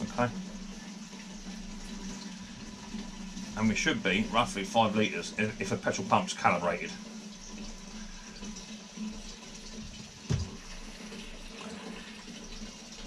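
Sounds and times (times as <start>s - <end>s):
fuel pouring into container: 0.0s - 13.0s.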